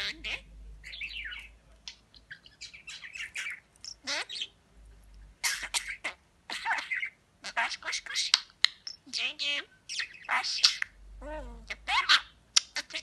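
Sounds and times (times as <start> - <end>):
budgerigar chattering: 0.0 - 4.6, 5.4 - 11.0, 11.6 - 13.0.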